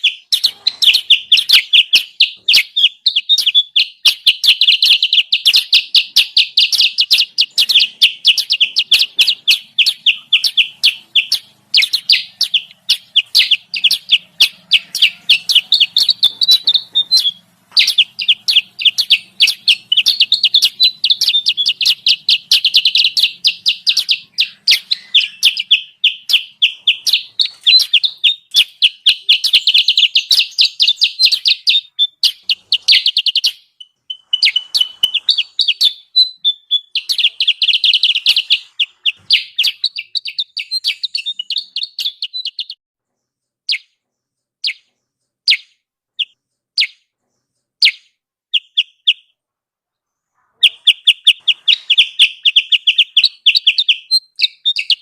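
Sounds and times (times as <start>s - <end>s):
rapid high bird chirps: 0.0s - 55.0s.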